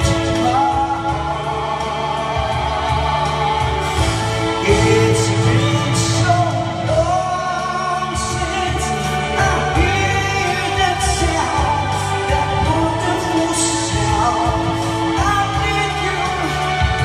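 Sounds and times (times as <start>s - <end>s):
man singing into microphone: 0.0s - 2.0s, 4.5s - 17.0s
musical backing track: 0.0s - 17.0s.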